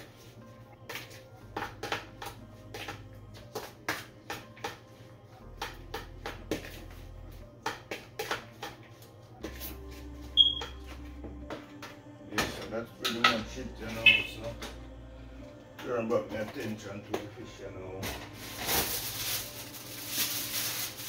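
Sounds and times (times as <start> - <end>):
quiet background music: 0.0 - 21.0.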